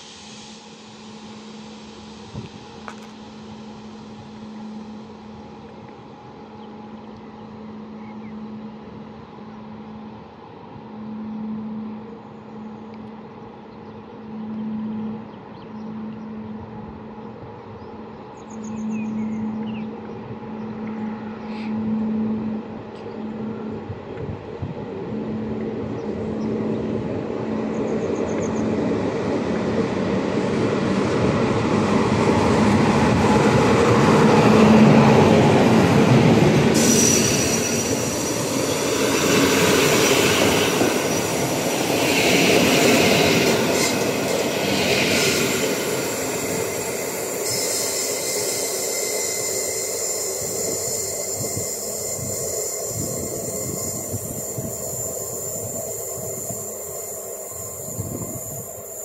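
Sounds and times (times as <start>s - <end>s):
electric locomotive humming: 0.0s - 59.0s
train noise: 0.0s - 59.0s.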